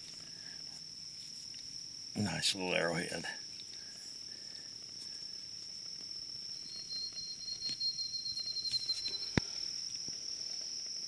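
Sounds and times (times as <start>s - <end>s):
high-pitched insect drone: 0.0s - 11.0s
lower insect trill: 0.0s - 11.0s.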